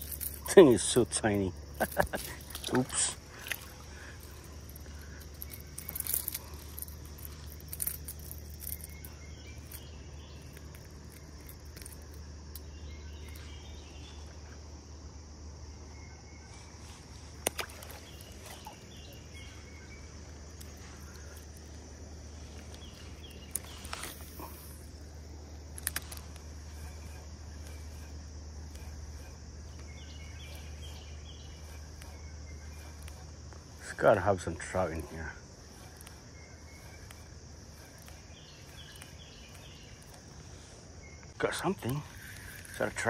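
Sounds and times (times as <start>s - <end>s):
insect chorus shrilling: 0.0s - 43.0s.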